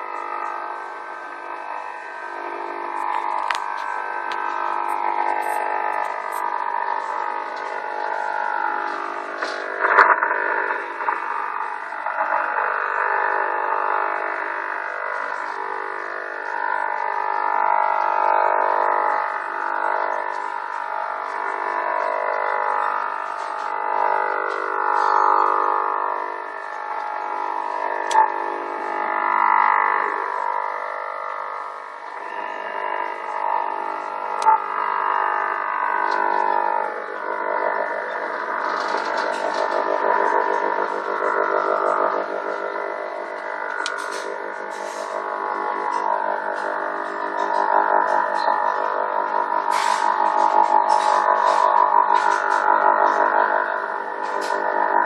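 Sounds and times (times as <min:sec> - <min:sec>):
radio band noise: 0:00.0 - 0:55.0
steady radio tones: 0:00.0 - 0:55.0.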